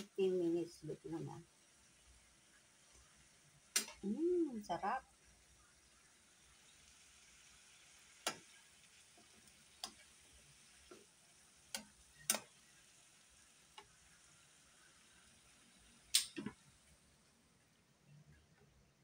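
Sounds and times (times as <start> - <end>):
food sizzling: 0.0 - 18.5.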